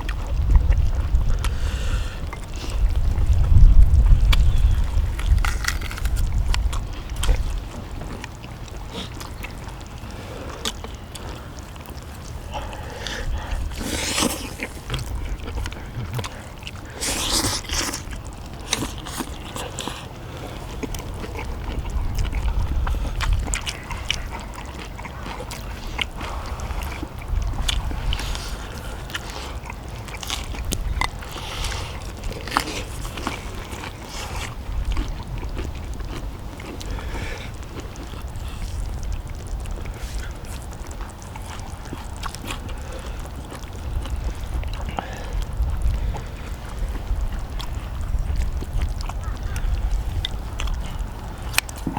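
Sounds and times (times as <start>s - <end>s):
wind rumble on microphone: 0.0s - 16.7s, 18.1s - 51.9s
people chewing and slurping: 0.0s - 51.9s.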